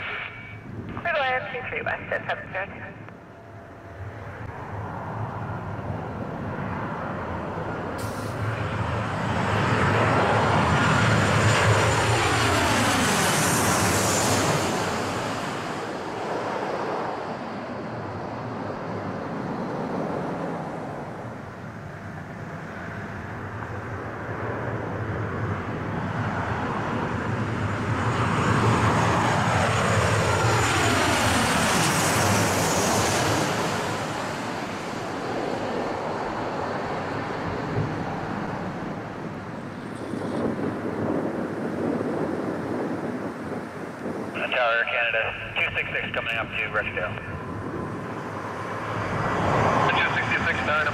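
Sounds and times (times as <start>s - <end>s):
jet airliner passing overhead: 0.0s - 50.9s.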